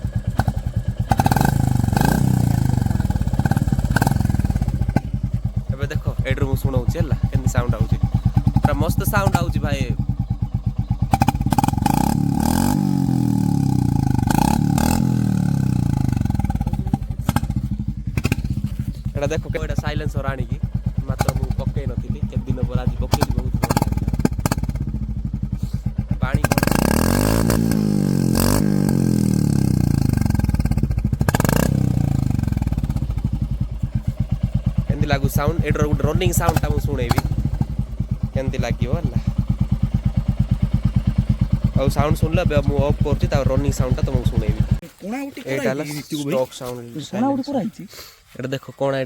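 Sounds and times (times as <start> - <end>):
motorcycle engine idling and revving: 0.0 - 47.6.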